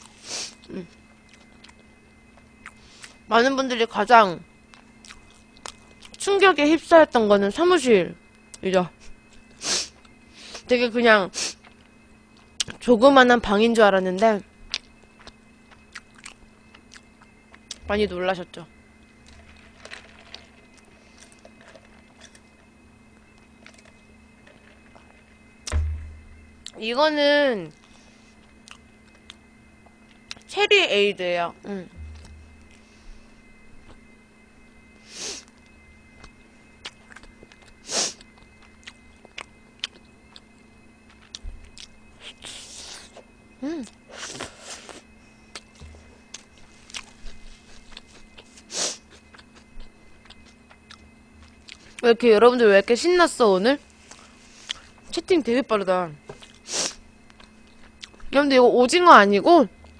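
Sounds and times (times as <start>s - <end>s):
low hum: 0.0s - 44.4s, 45.0s - 59.9s.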